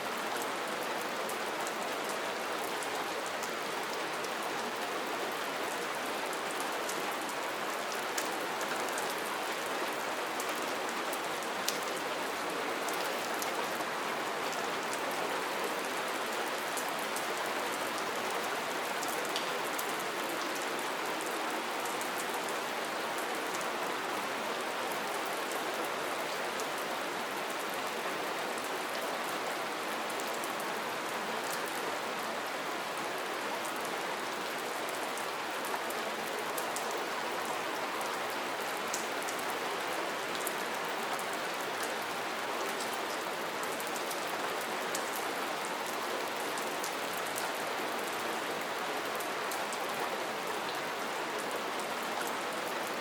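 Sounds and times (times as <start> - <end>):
steady rain pattering: 0.0 - 53.0.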